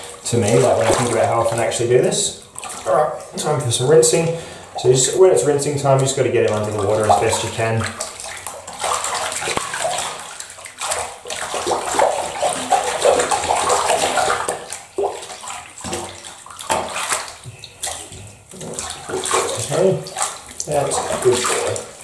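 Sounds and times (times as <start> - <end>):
bathwater sloshing and splashing: 0.0 - 22.0.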